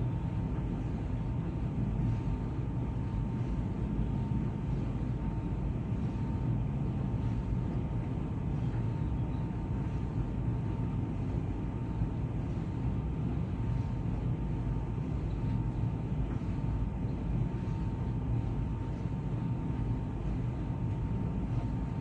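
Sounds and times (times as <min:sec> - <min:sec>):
thin steady whine: 0:00.0 - 0:22.0
tumble dryer drum rumbling: 0:00.0 - 0:22.0.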